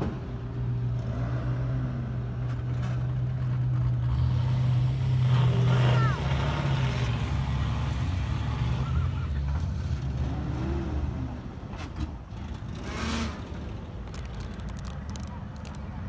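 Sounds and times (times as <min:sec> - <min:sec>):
car engines rumbling past: 0:00.0 - 0:16.0.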